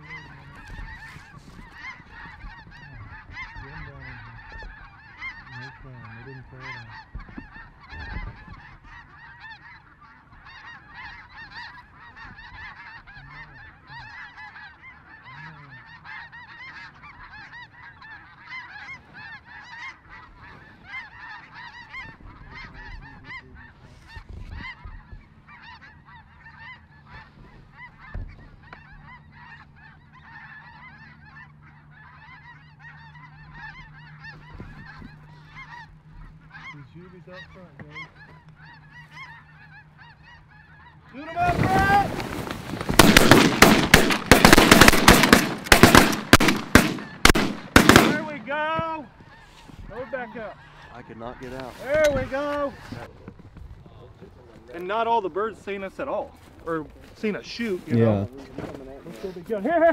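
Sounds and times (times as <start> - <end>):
flock of geese honking: 0.0 - 59.9.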